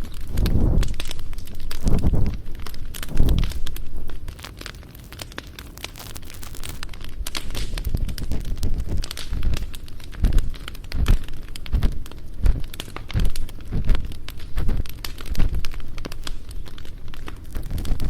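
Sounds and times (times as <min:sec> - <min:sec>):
ear pick scraping: 0:00.0 - 0:16.5, 0:17.2 - 0:18.0
campfire crackling: 0:00.0 - 0:18.0.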